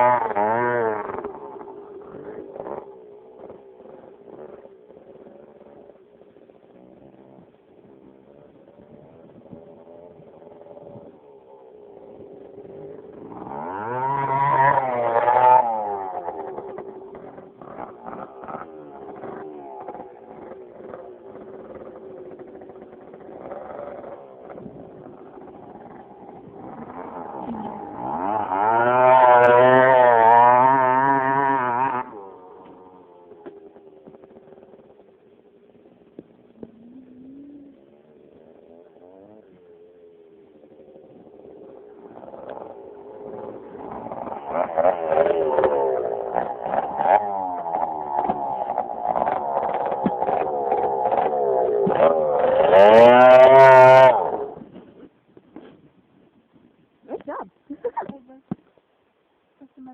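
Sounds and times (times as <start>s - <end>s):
dirt bike engine revving: 0.0s - 55.8s.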